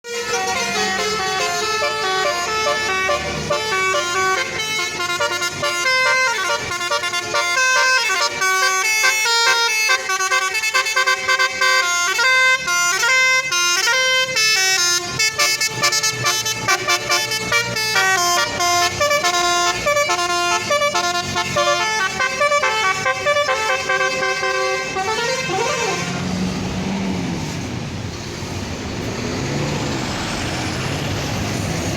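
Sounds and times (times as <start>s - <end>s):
multi-tone bus horn tune: 0.0s - 26.7s
vehicle engine noise: 0.1s - 31.9s.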